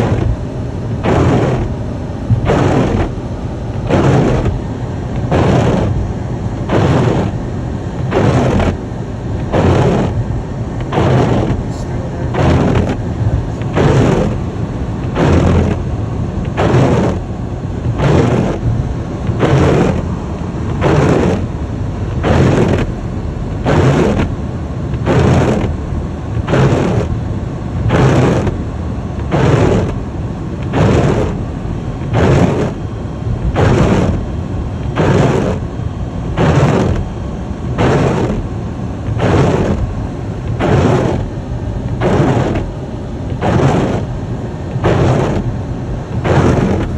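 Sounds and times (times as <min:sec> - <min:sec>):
windshield wipers swishing: 0:00.0 - 0:23.0, 0:23.6 - 0:27.2, 0:27.8 - 0:46.9
car driving rumble: 0:00.0 - 0:46.9.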